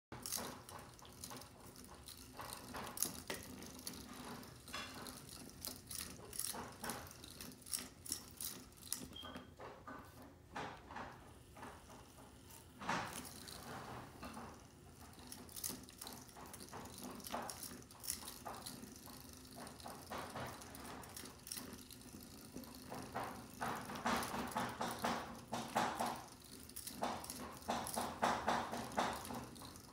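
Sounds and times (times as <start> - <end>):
toy motor hum: 0.2 - 9.3, 13.0 - 29.9
light clicks and rattles: 0.2 - 29.9.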